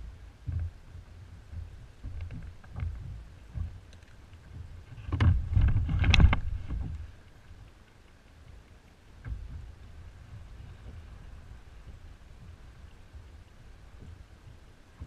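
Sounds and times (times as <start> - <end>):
wind buffeting microphone: 0.0 - 7.8, 8.5 - 15.0.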